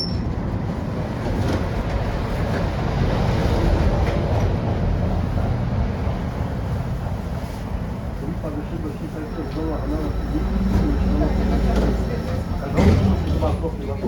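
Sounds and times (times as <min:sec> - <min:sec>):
tram wheels rumbling: 0:00.0 - 0:14.0.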